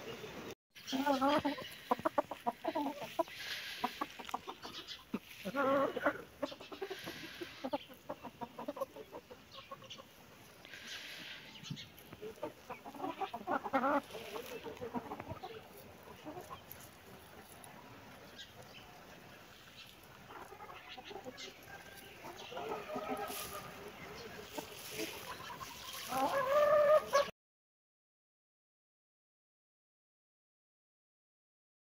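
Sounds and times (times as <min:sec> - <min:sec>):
chickens clucking: 0:00.0 - 0:27.3.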